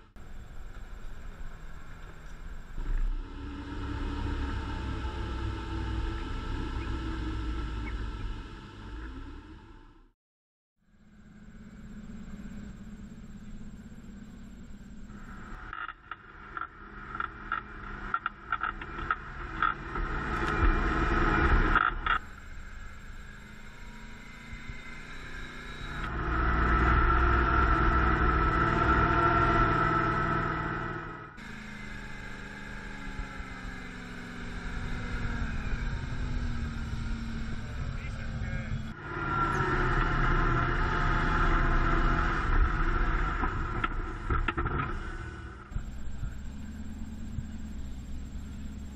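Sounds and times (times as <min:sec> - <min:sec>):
truck engine running: 0:00.0 - 0:10.1, 0:10.9 - 0:48.9.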